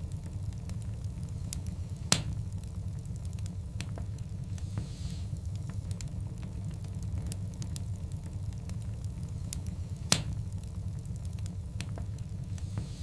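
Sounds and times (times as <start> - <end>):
fire low rumble: 0.0 - 13.0
wood fire crackling: 0.0 - 13.0.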